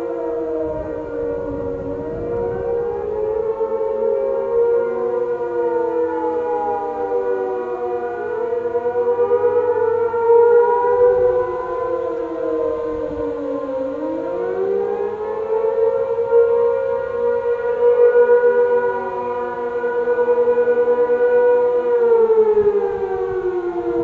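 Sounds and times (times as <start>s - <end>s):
wavering warning sirens: 0.0s - 24.0s.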